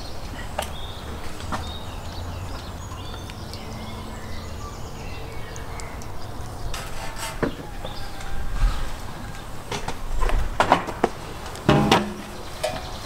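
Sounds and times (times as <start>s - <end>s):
small birds chirping: 0.0s - 10.0s, 11.2s - 13.0s.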